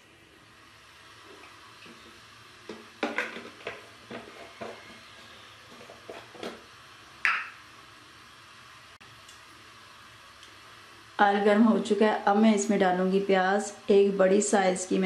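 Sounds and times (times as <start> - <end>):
hot oil hissing: 0.0 - 15.0.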